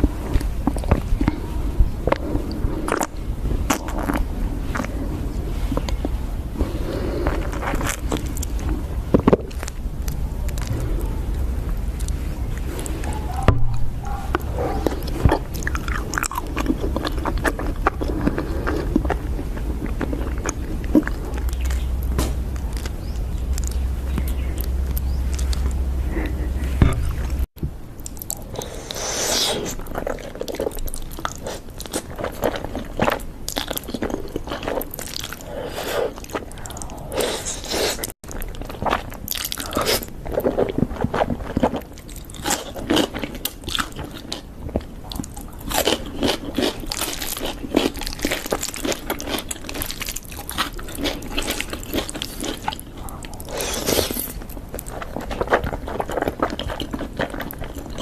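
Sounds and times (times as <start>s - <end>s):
person crunching and chewing: 0.0s - 58.0s.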